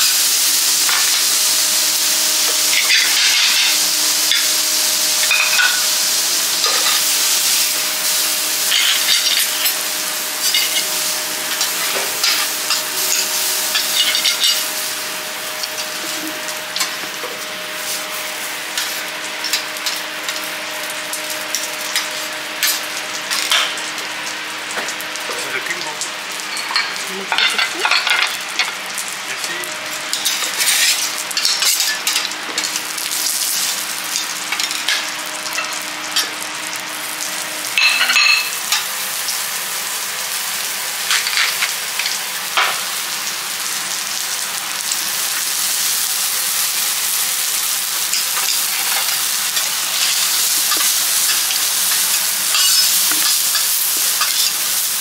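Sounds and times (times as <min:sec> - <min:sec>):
meat sizzling on griddle: 0:00.0 - 0:55.0.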